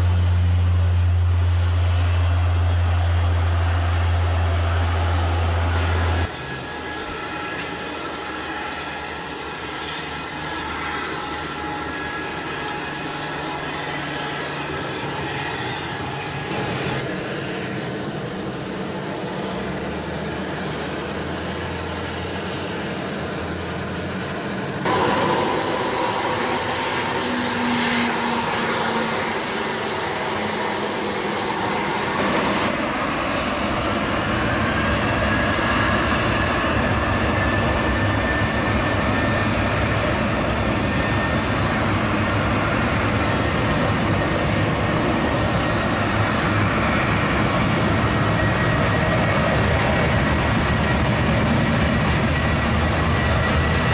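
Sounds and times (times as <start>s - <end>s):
jet engines at high thrust: 0.0s - 53.9s.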